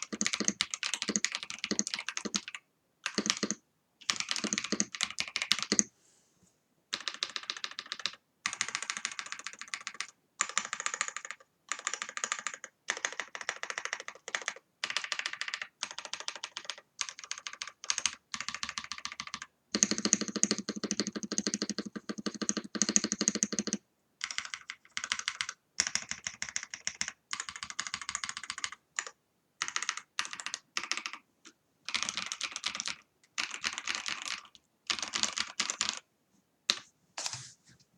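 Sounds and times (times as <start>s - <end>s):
typing on mechanical keyboard: 0.0s - 5.9s, 6.9s - 31.2s, 31.9s - 36.1s.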